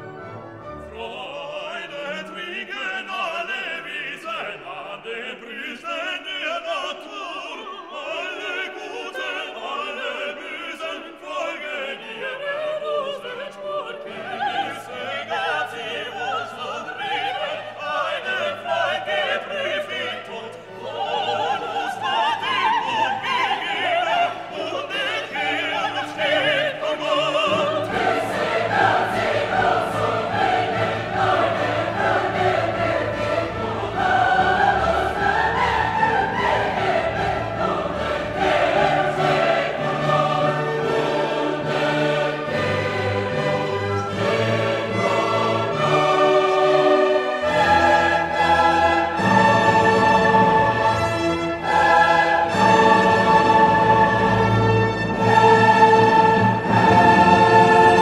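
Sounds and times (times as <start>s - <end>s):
operatic singing with orchestra: 0.0s - 58.0s.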